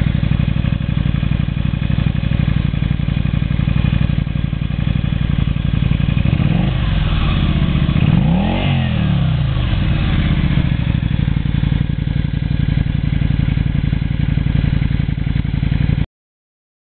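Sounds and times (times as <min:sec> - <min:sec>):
motorcycle engine idling and revving: 0:00.0 - 0:16.1.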